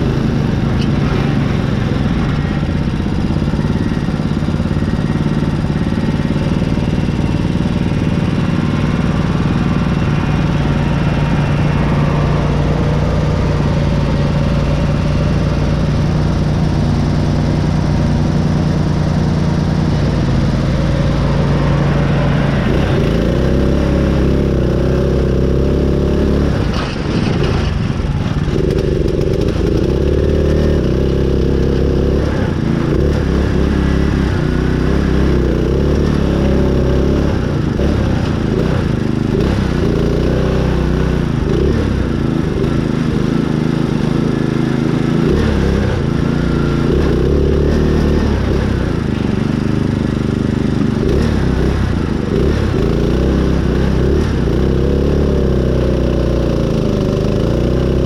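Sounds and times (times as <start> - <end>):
small gas engine running hard: 0.0 - 58.0.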